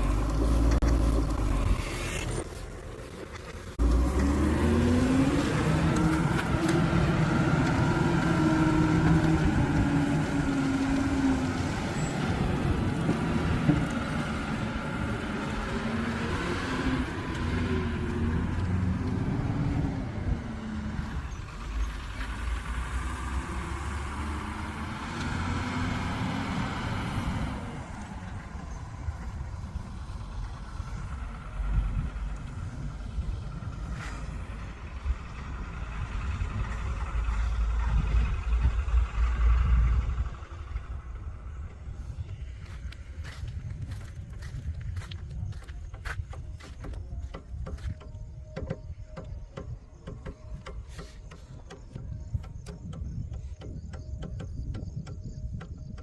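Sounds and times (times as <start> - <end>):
heavy diesel engine working: 0.0 - 56.0.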